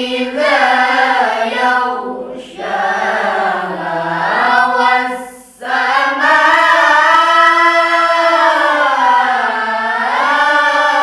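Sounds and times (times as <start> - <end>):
child reciting a long melodic note: 0.0 - 11.0.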